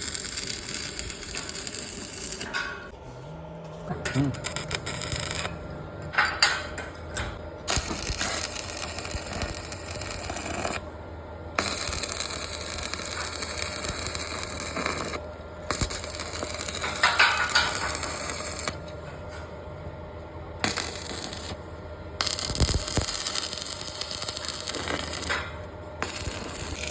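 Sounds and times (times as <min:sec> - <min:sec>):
arc welding crackling: 0:00.0 - 0:02.9, 0:04.0 - 0:11.0, 0:11.6 - 0:19.4, 0:20.6 - 0:26.9.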